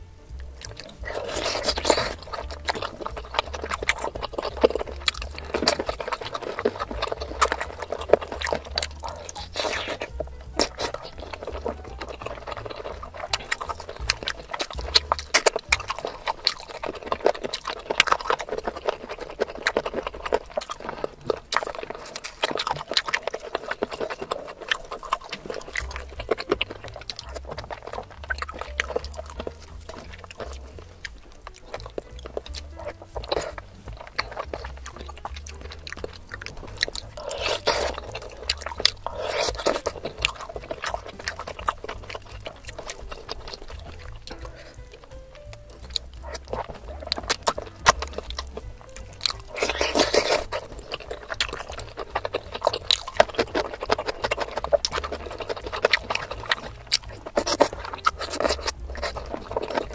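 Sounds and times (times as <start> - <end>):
wet chewing and mouth smacks: 0.0 - 59.9.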